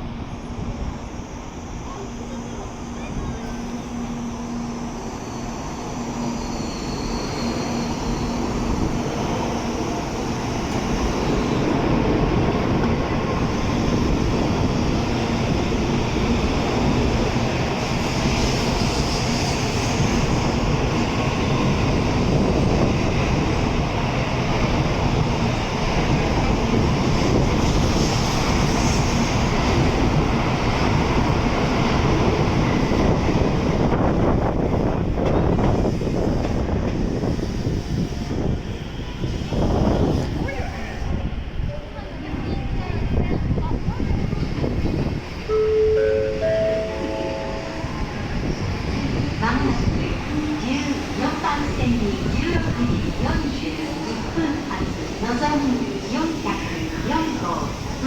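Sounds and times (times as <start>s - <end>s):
bullet train rumbling past: 0.0s - 58.0s.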